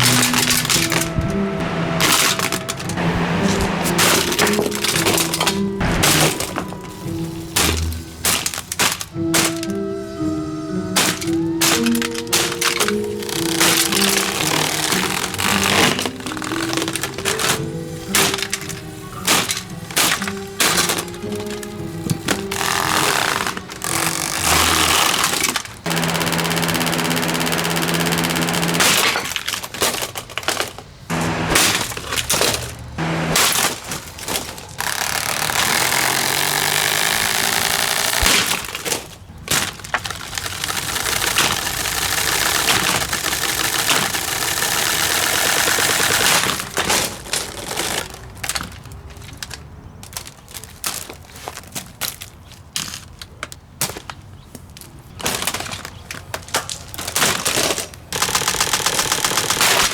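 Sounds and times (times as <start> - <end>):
plastic cracking and breaking: 0.0 - 59.9.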